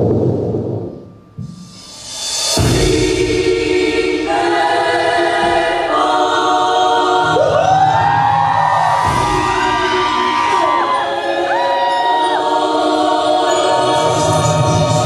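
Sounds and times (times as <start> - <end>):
choir-like voices holding chords: 2.6 - 15.0.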